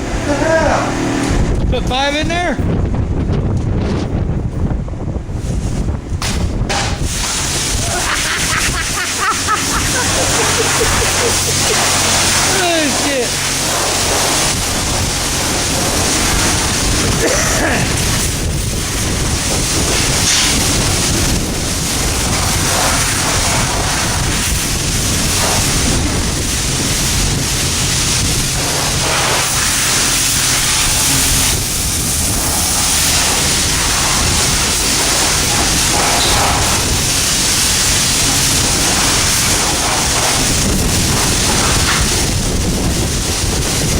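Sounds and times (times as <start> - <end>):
pressure washer spraying water: 0.0 - 2.3, 5.7 - 43.9.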